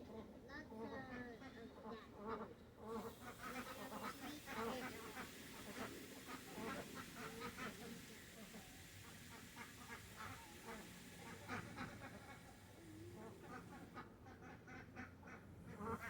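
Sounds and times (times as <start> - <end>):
ducks quacking: 2.3 - 16.0.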